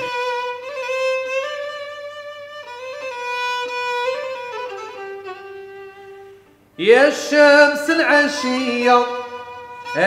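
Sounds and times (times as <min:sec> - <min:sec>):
solo violin: 0:00.0 - 0:10.0.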